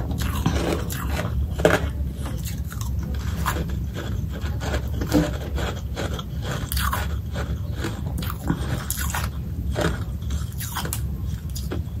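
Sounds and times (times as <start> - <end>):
person chewing frost crunching: 0.0 - 12.0.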